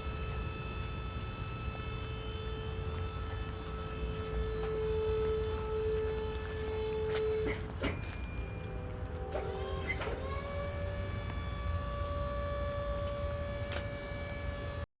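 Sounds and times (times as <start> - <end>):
low engine rumble: 0.0 - 14.9
mechanical whine: 0.0 - 14.9.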